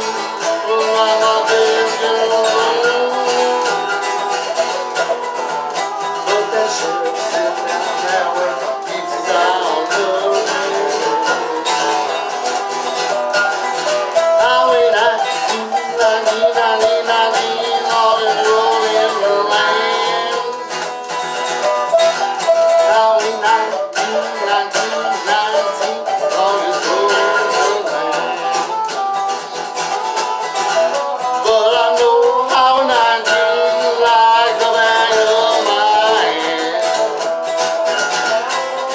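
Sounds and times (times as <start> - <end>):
acoustic folk string picking: 0.0 - 38.9.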